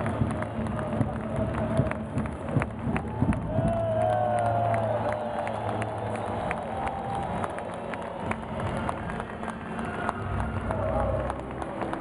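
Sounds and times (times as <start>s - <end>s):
sharp claps and clicks: 0.0s - 12.0s.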